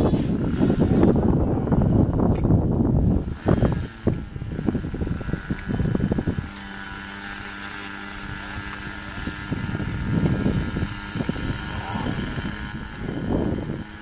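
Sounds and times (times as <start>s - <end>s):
model airplane engine humming: 0.0s - 14.0s
wind buffeting microphone: 0.0s - 14.0s.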